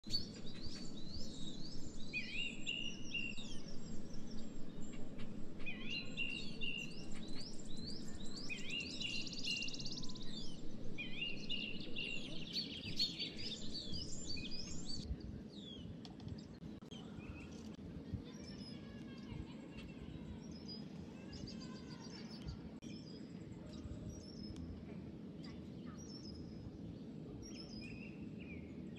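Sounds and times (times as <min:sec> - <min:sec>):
songbird singing: 0:00.0 - 0:28.9
steady low hum: 0:00.0 - 0:28.9.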